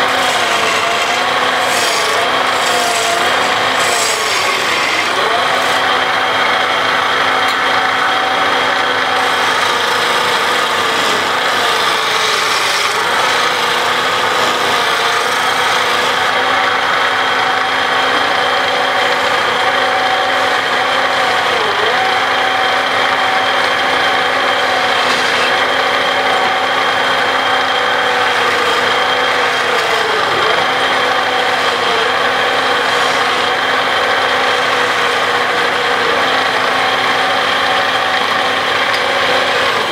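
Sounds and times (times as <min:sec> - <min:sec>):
chisel rasping on spinning wood: 0:00.0 - 0:39.9
wood lathe humming: 0:00.0 - 0:39.9.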